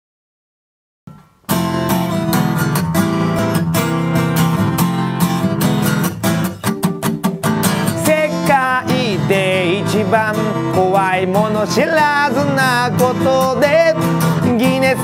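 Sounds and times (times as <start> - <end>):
acoustic guitar strumming: 1.1 - 15.0.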